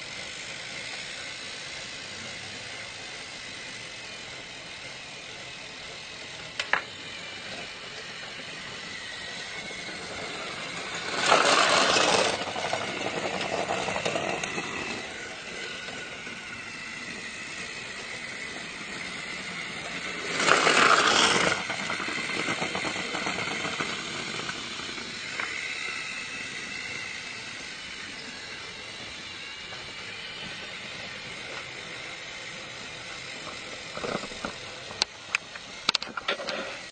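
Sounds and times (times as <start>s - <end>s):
toy train motor running: 0.0s - 36.9s.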